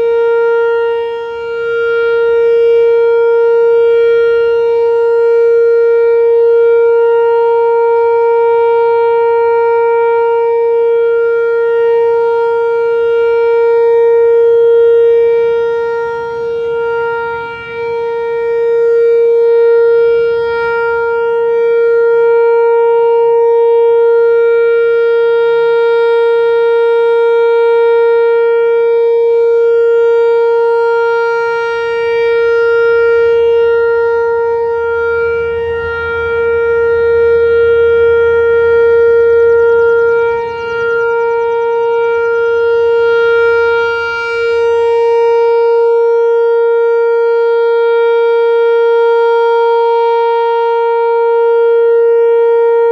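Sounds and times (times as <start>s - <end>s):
rotating warning siren: 0.0s - 52.9s.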